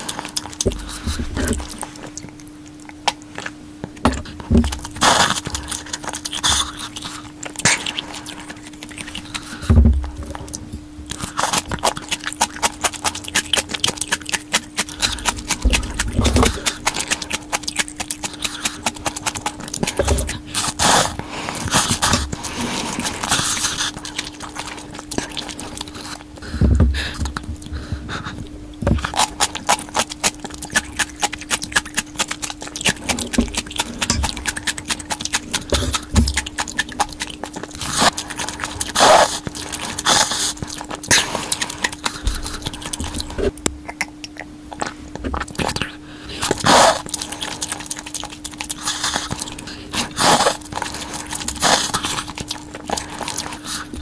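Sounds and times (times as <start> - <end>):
steady low hum: 0.0 - 54.0
wet chewing and smacking: 0.0 - 54.0
noodle slurps: 4.7 - 9.6, 11.1 - 26.4, 29.0 - 43.6, 44.8 - 54.0.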